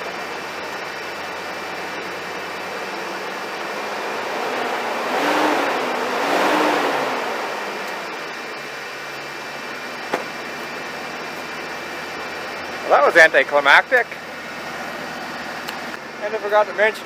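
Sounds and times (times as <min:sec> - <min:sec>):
truck engine revving and idling: 0:00.0 - 0:17.0.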